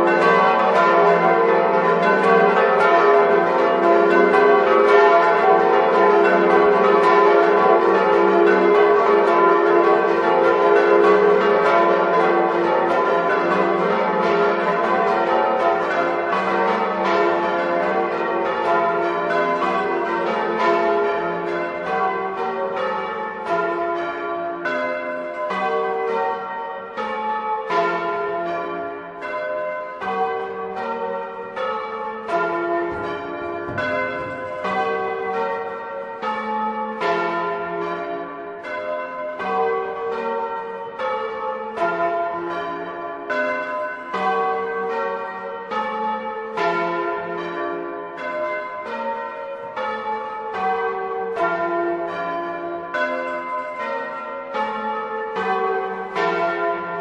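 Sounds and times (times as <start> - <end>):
church bells ringing a peal: 0.0 - 57.0.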